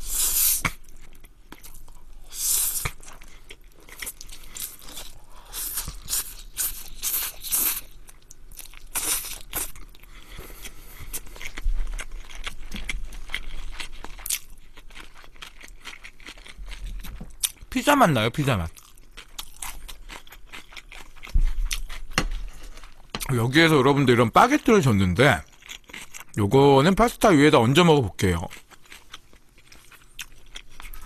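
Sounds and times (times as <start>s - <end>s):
man chewing: 0.0s - 17.7s, 18.6s - 23.4s, 25.4s - 26.4s, 28.4s - 31.0s.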